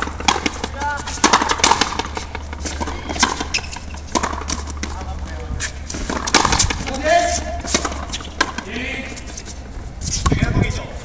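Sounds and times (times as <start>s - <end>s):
ball struck by rackets: 0.0s - 8.8s.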